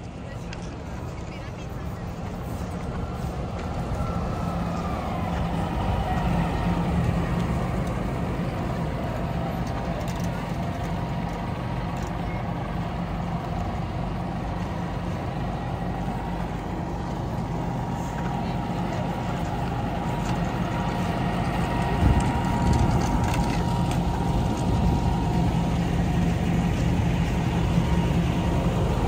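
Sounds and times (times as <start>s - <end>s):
falling engine whine: 0.0s - 29.0s
heavy vehicle engine running: 0.0s - 29.0s
street traffic: 0.0s - 29.0s.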